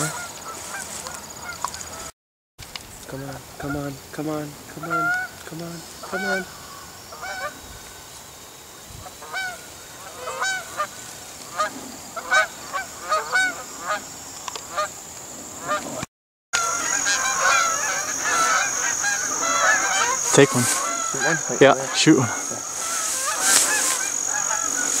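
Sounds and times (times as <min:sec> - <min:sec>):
geese honking: 0:00.0 - 0:02.1, 0:03.6 - 0:07.8, 0:09.0 - 0:25.0.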